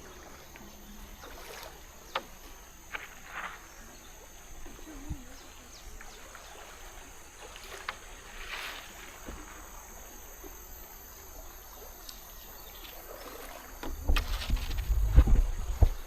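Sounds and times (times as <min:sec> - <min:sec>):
high insect drone: 0:00.0 - 0:16.0
soft water noise: 0:00.0 - 0:16.0
water swishing: 0:00.0 - 0:16.0.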